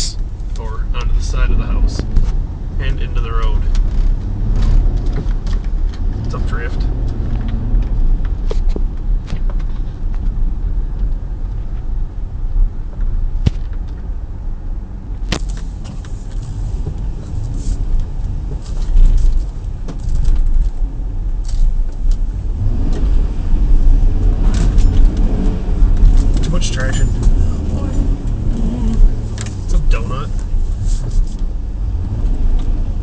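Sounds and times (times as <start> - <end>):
engine and tyres rumbling: 0.0 - 33.0.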